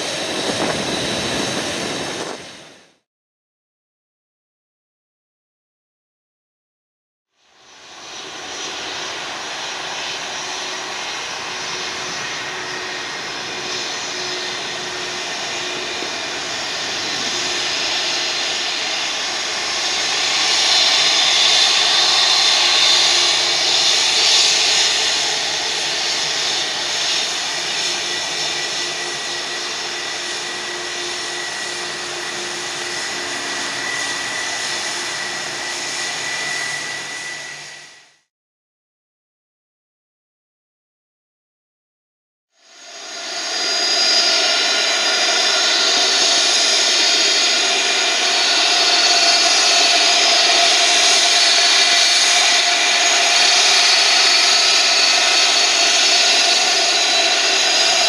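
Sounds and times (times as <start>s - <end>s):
jet engines roaring: 0.0s - 3.0s, 7.6s - 38.3s, 42.6s - 58.0s.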